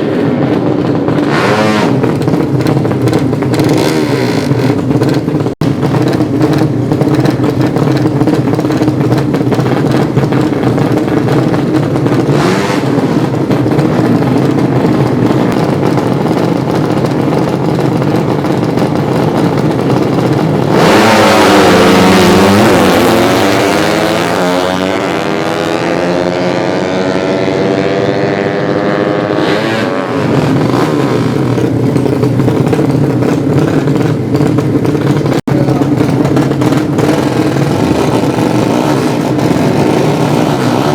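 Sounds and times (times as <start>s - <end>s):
motorcycle passing at full throttle: 0.0s - 40.9s
steady engine noise: 0.0s - 40.9s.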